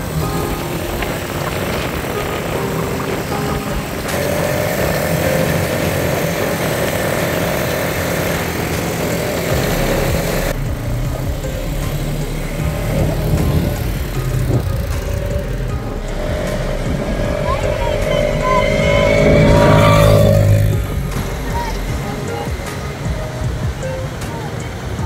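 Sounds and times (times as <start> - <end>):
atv engines running: 0.0 - 25.0
wind noise: 0.0 - 25.0.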